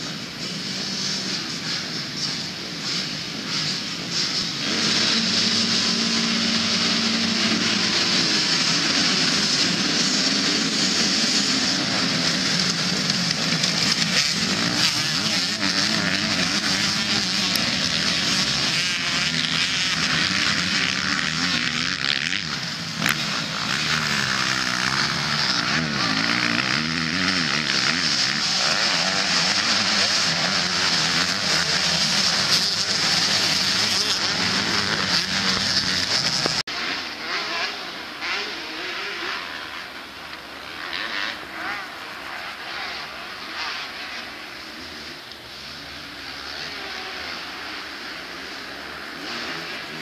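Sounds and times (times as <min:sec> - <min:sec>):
motocross bikes revving: 0:00.0 - 0:50.0
single motorbike revving: 0:02.9 - 0:50.0.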